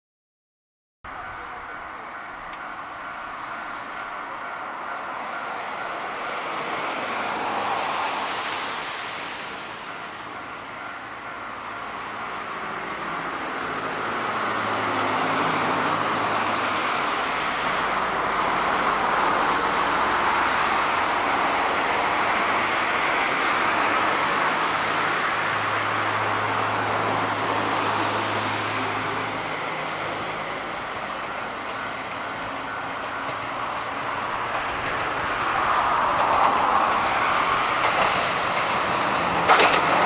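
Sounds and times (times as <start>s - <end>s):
cars passing on road: 1.1s - 40.0s.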